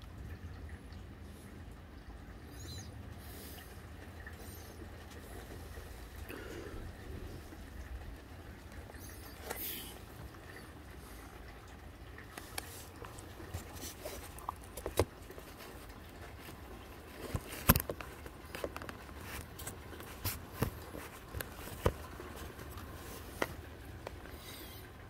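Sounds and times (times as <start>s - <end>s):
faint rain hiss: 0.0s - 25.0s.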